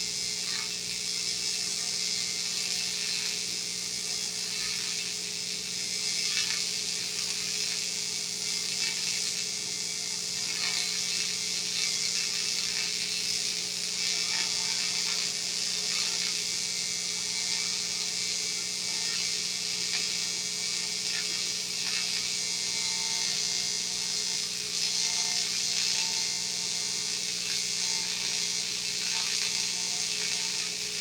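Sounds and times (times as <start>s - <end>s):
welding arc buzzing and hissing: 0.0s - 31.0s.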